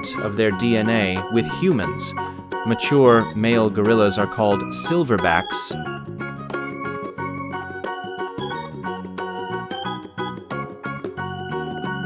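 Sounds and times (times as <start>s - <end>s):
organ-like keyboard music: 0.0s - 12.0s.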